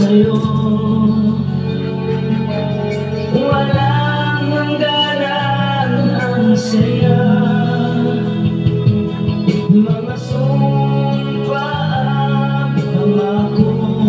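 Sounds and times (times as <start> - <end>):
instrumental backing music: 0.0 - 14.0
man singing into microphone: 0.0 - 14.0.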